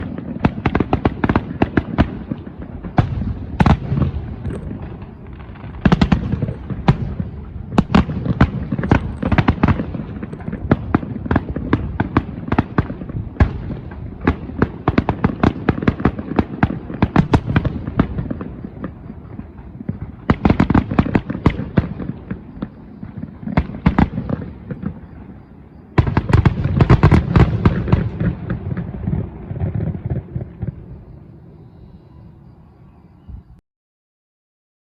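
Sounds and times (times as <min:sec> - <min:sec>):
fireworks bangs and crackles: 0:00.0 - 0:31.7.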